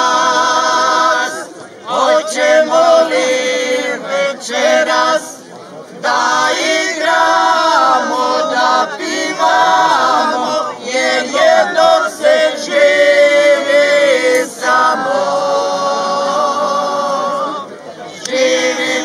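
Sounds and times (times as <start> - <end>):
group singing a cappella: 0.0 - 5.4, 6.0 - 19.0.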